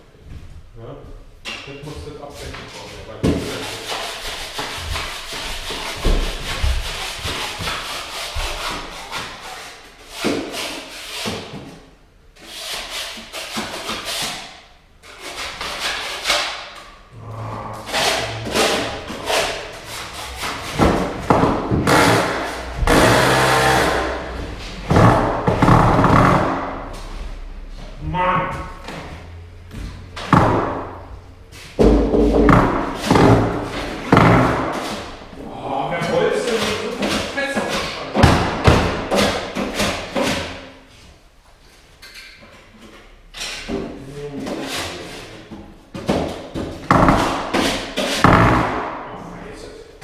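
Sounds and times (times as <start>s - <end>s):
scraping and rubbing on wood: 2.2s - 27.1s, 30.0s - 49.1s.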